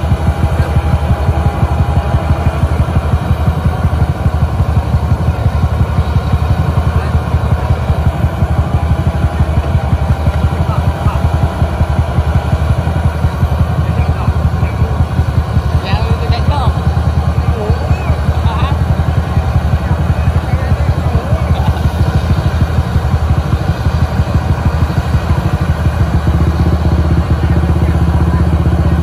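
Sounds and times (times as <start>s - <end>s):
diesel engine rumbling: 0.0s - 29.0s.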